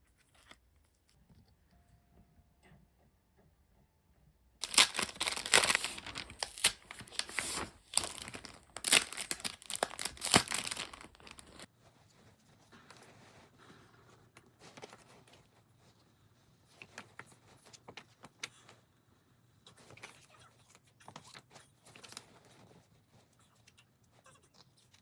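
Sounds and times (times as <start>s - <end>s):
small rustles: 4.6s - 25.0s.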